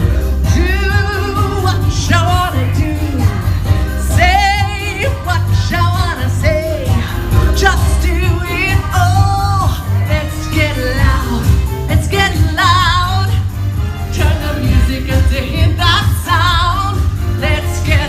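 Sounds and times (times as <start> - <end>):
person singing: 0.0 - 18.0
upbeat pop music: 0.0 - 18.0.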